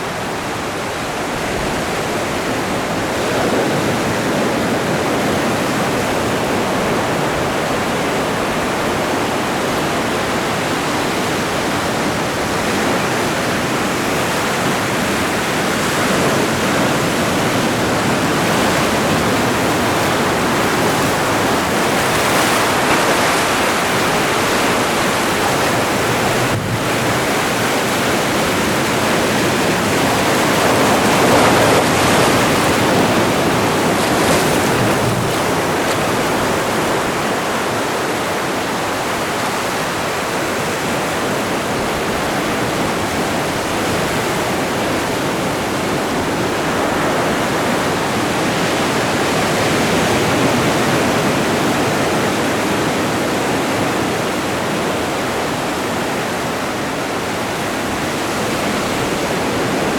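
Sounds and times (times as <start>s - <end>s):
ocean waves breaking on shore: 0.0s - 59.9s
wind on microphone: 0.0s - 59.9s.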